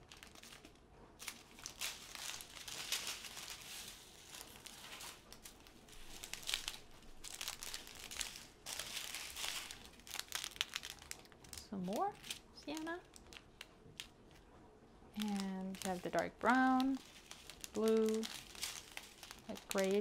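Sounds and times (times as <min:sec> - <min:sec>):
plastic bags crinkling: 0:00.0 - 0:14.5, 0:15.1 - 0:20.0.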